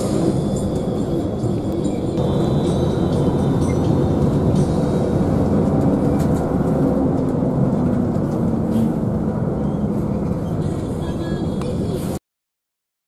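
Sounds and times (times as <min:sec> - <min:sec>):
bus engine and road noise: 0:00.0 - 0:12.2.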